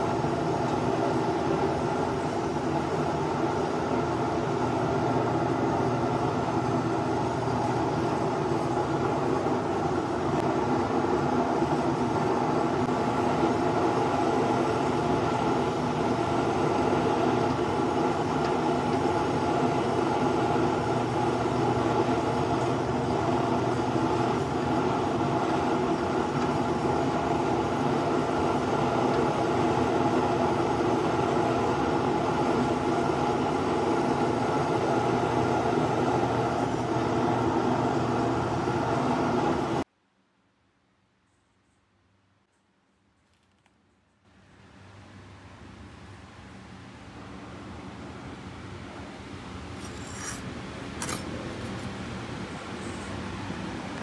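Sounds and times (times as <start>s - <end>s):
forge burner hissing: 0.0s - 39.9s, 49.6s - 54.0s.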